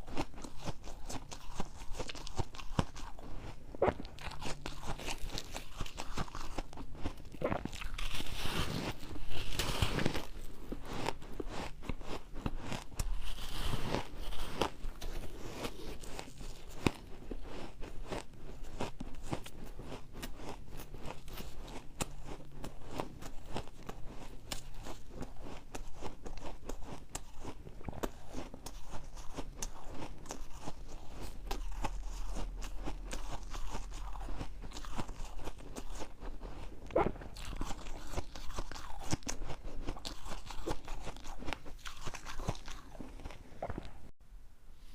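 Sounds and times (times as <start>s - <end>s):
ice being chewed: 0.0s - 44.1s.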